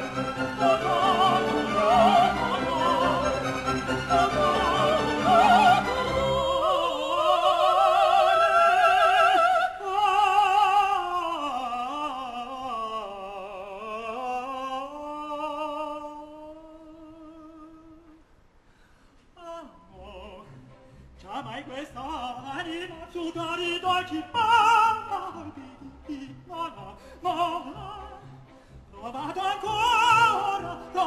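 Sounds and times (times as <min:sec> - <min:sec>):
operatic singing: 0:00.0 - 0:18.0, 0:19.4 - 0:31.0.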